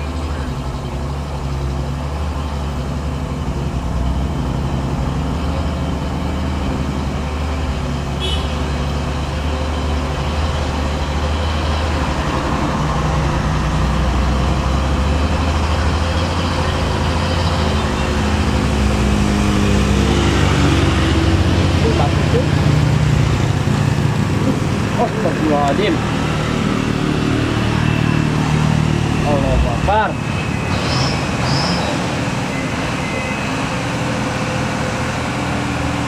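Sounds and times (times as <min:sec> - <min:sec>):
truck diesel engine under load: 0:00.0 - 0:36.0.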